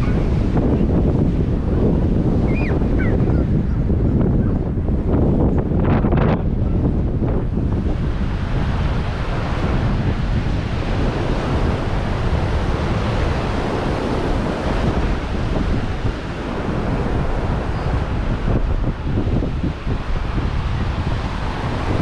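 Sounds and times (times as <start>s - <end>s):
ocean surf breaking on beach: 0.0s - 22.0s
wind buffeting microphone: 0.0s - 22.0s.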